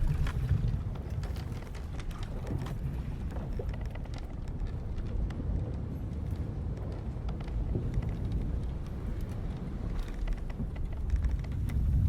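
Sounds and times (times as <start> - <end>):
low rumble of wind and sea: 0.0 - 12.0.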